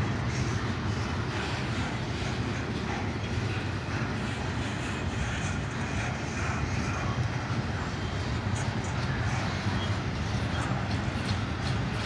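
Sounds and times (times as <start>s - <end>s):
freight train rumbling past: 0.0s - 12.0s
steel wheels rolling on rail: 0.0s - 12.0s.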